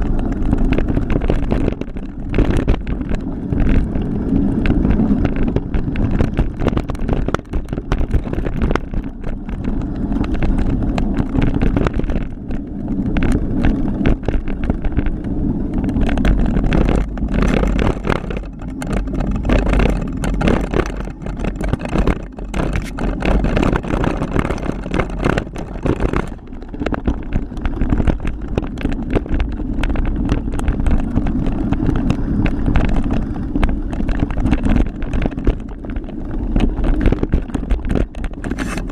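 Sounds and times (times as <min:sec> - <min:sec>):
mountain bike rattling and knocking: 0:00.0 - 0:38.9
wind on microphone: 0:00.0 - 0:38.9.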